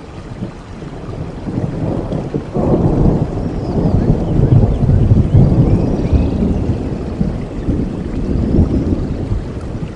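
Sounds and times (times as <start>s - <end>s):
steady rain: 0.0s - 9.9s
rolling thunder: 0.4s - 9.9s.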